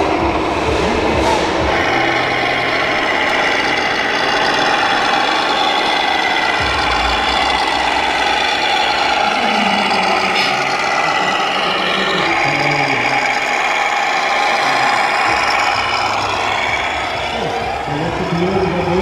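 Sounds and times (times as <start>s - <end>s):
diesel engine idling through speaker: 0.0s - 19.0s
low rumble: 0.0s - 19.0s.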